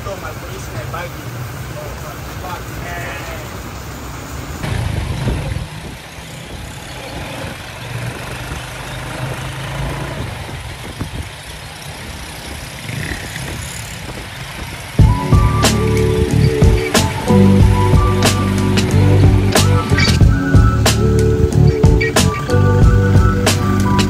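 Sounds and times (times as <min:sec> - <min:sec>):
outdoor noise: 0:00.0 - 0:24.0
vehicle engine humming: 0:00.0 - 0:24.0.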